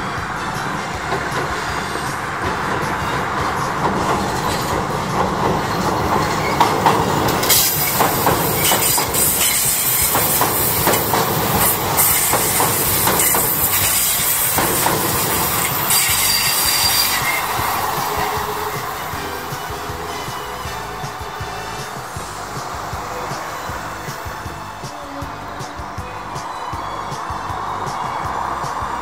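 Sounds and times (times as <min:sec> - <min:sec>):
electric train passing: 0:00.0 - 0:29.0
strong high hiss: 0:00.0 - 0:29.0
wheels clacking over rail joints: 0:00.0 - 0:29.0.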